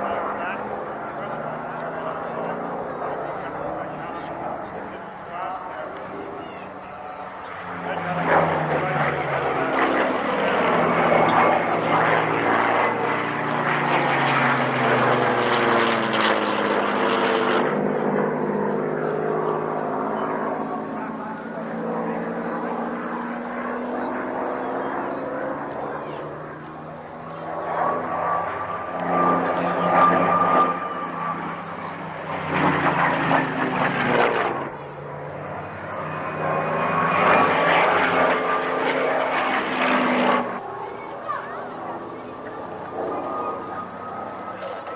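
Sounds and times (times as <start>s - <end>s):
propeller aircraft flying past: 0.0s - 44.9s.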